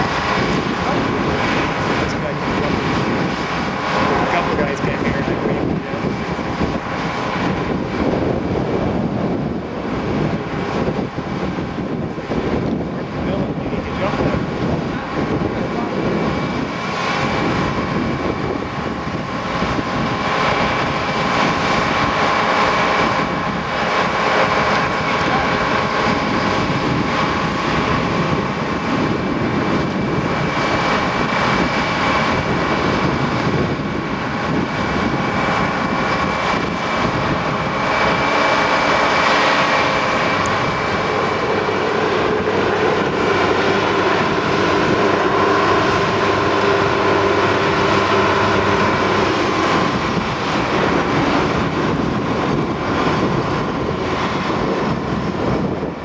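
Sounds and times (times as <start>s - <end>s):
machinery whining: 0.0s - 56.0s
work train engine running: 0.0s - 56.0s.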